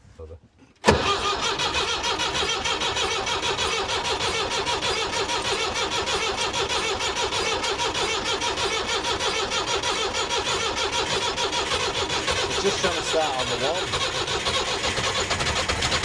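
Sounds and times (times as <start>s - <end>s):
diesel engine cranking on starter: 0.8s - 16.0s.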